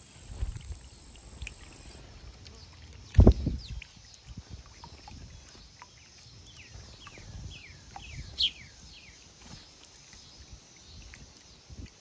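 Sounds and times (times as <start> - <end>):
small bird chirping: 0.3 - 11.7.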